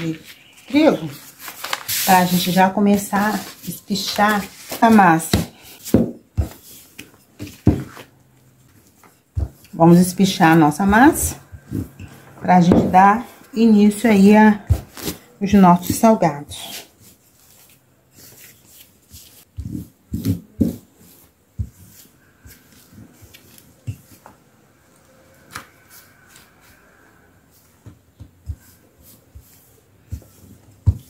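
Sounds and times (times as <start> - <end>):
dough thumping and rubbing: 2.0 - 13.2, 14.2 - 24.4, 27.6 - 31.0.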